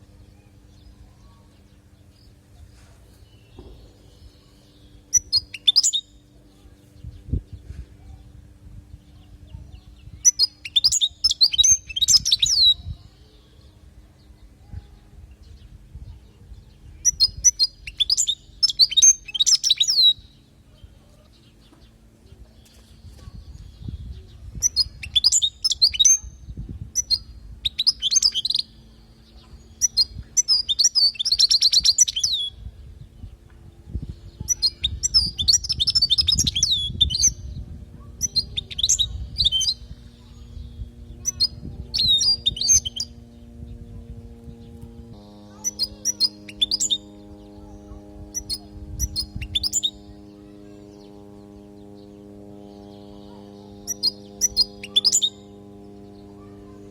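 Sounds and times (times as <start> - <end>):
bird twittering song: 0.0 - 56.9
buzzy bird trill: 3.1 - 8.1, 8.8 - 21.7, 22.6 - 33.2, 33.9 - 56.9.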